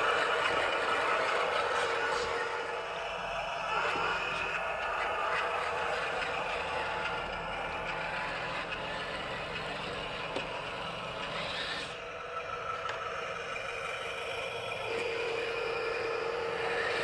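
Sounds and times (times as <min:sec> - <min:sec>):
electric motor whirring: 0:00.0 - 0:17.0.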